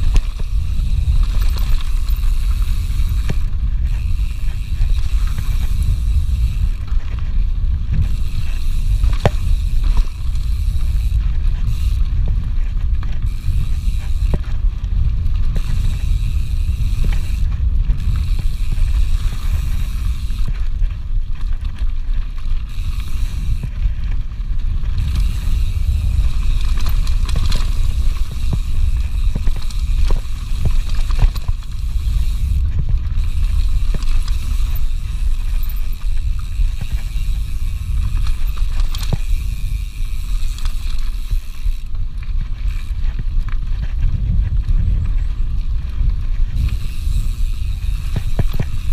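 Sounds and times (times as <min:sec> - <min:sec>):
bike clicks and rattles: 0:00.0 - 0:48.9
bike tyres rumbling on dirt: 0:00.0 - 0:48.9.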